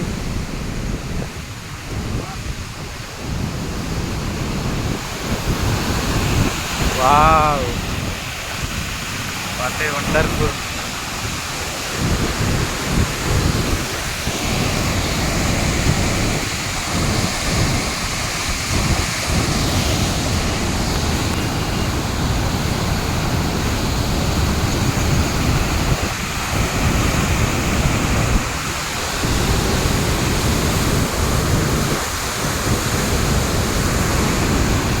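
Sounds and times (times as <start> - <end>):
wind buffeting microphone: 0.0 - 35.0
water rushing through dam gate: 1.2 - 35.0.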